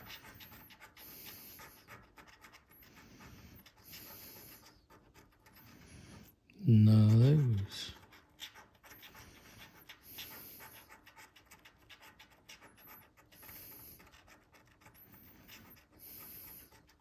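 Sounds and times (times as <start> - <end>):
coin scratching lottery ticket: 0.0 - 17.0.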